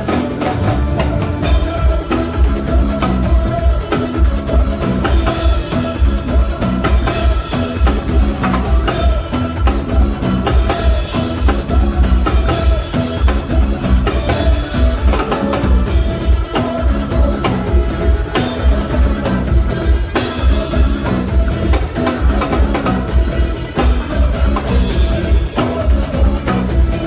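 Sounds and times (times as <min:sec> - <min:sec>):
heavy bass line: 0:00.0 - 0:27.0
live band instrumental groove: 0:00.0 - 0:27.0.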